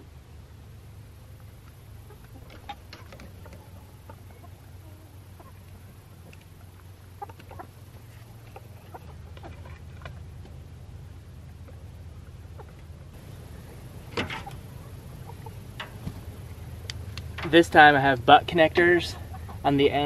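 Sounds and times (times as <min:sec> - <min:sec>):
steady low rumble: 0:00.0 - 0:20.0
hens clucking: 0:01.3 - 0:10.7, 0:11.4 - 0:20.0.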